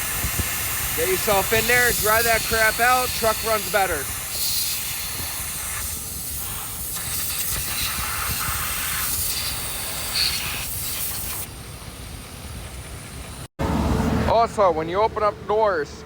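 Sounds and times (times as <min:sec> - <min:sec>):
air hissing from a nozzle: 0:00.0 - 0:13.5.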